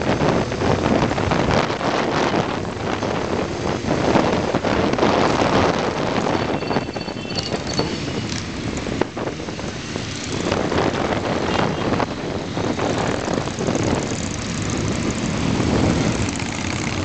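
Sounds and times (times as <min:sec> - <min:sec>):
motorcycle engines running: 0:00.0 - 0:17.0
wind noise on microphone: 0:00.0 - 0:17.0.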